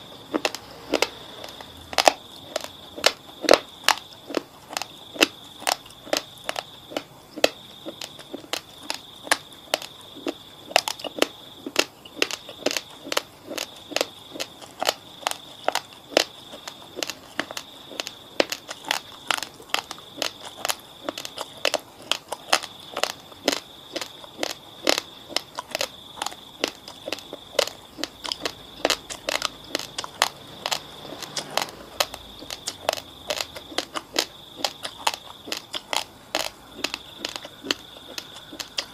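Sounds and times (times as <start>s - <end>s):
chewing raw rice crunches: 0.0s - 38.9s.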